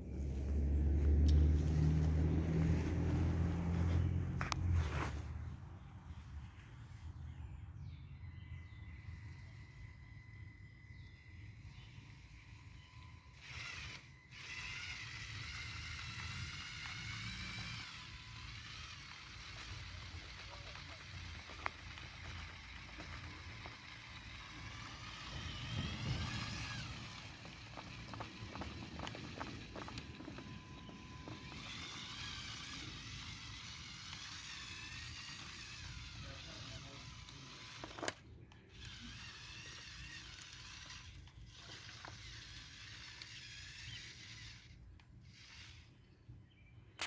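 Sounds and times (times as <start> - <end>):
small electric motors whining: 0.0 - 5.6, 8.2 - 46.3.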